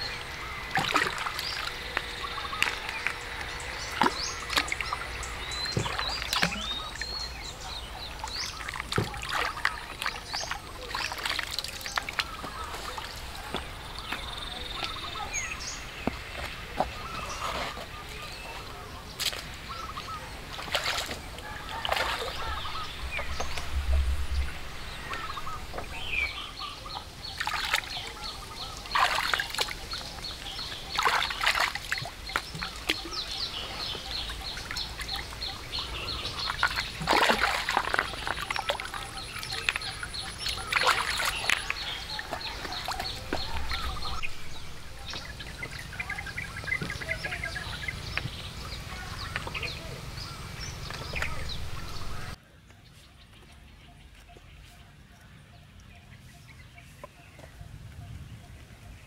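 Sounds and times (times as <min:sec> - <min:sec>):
water splashing and sloshing: 0:00.0 - 0:52.4
birds calling: 0:00.0 - 0:59.0.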